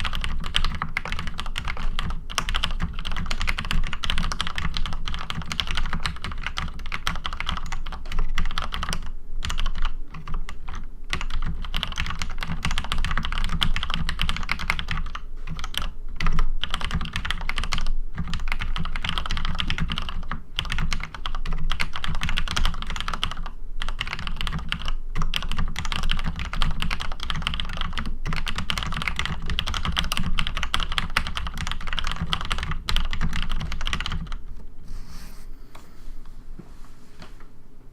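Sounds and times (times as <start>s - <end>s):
fast typing on mechanical keyboard: 0.0s - 34.4s.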